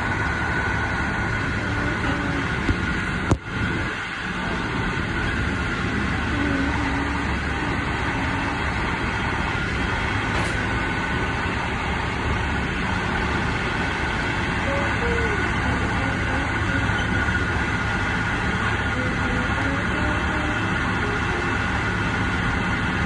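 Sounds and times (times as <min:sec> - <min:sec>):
faint steady whine: 0:00.0 - 0:23.0
train wheels rolling on rails: 0:00.0 - 0:23.0.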